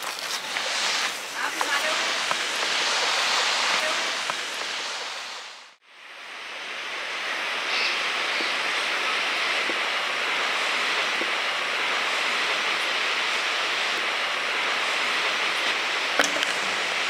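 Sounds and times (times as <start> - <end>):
steady outdoor rushing noise: 0.0 - 17.0.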